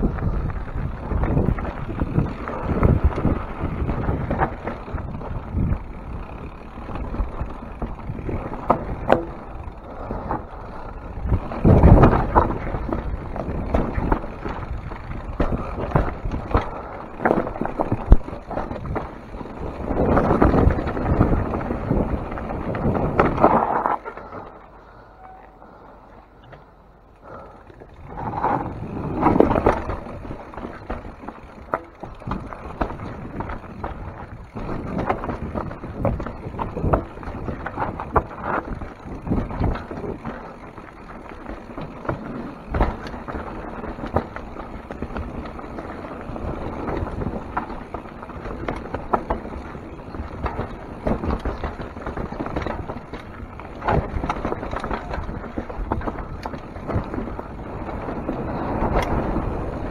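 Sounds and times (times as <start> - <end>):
bike tyres rumbling over rock: 0.0 - 25.0, 27.3 - 59.9
bike knocking and rattling: 0.0 - 59.9.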